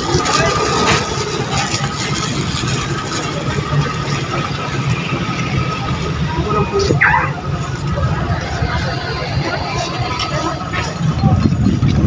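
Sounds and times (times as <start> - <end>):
engines idling with low rumble: 0.0 - 12.0
voices in background: 0.0 - 12.0.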